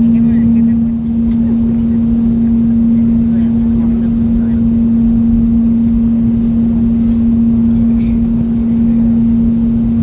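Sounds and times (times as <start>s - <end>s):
airplane cabin rumble and hum: 0.0s - 10.0s.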